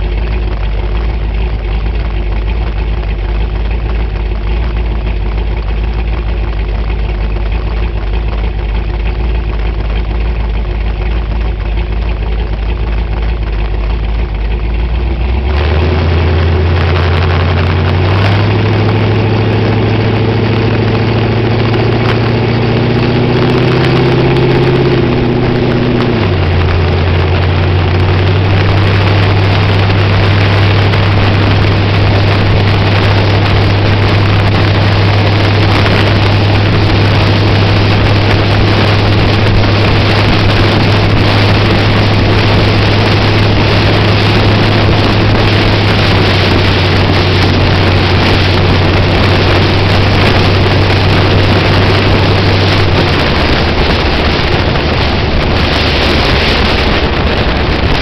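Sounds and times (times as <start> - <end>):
race car engine running steadily: 0.0 - 58.0
wind buffeting microphone: 0.0 - 58.0.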